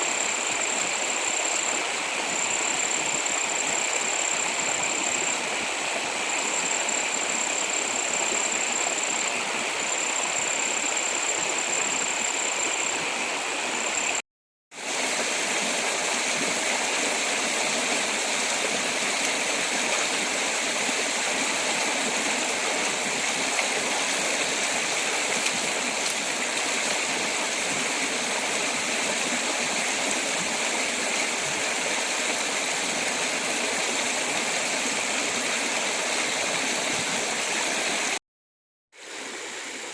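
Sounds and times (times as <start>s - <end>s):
stream water rushing: 0.0s - 14.2s, 14.8s - 38.2s, 39.0s - 39.9s.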